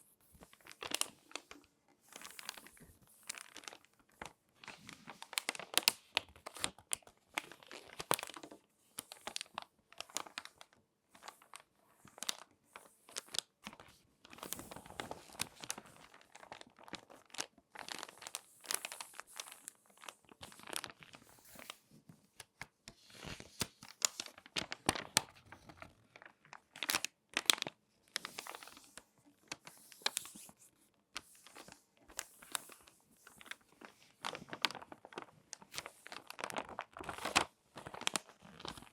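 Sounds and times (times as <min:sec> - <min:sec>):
magazine pages crackling: 0:00.4 - 0:11.6, 0:12.2 - 0:21.8, 0:22.4 - 0:38.9.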